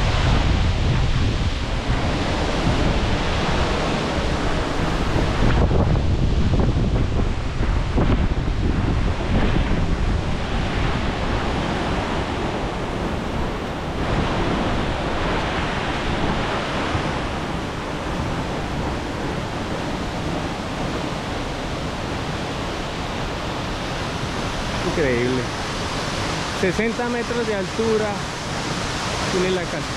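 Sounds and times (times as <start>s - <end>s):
waterfall rushing: 0.0s - 29.9s
wind buffeting microphone: 0.0s - 29.9s.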